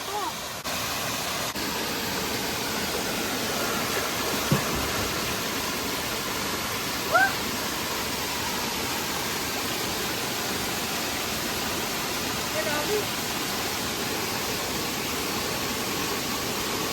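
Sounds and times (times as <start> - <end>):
waterfall and stream rushing: 0.0 - 16.9.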